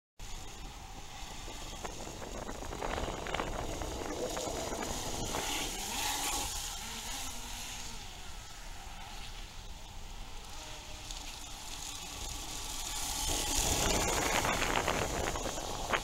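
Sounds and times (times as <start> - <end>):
model jet ski motor: 0.2 - 16.0
rush of wake: 0.3 - 16.0.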